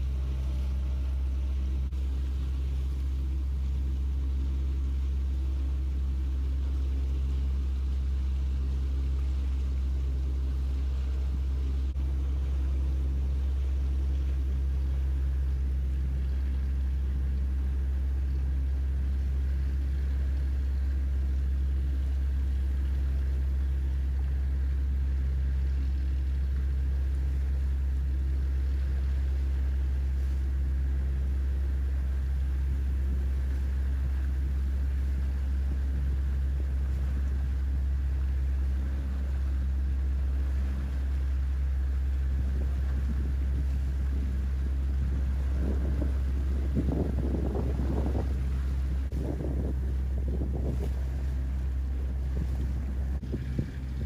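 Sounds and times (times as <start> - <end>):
faint constant hum: 0.0 - 54.0
ship engines rumbling: 0.0 - 54.0.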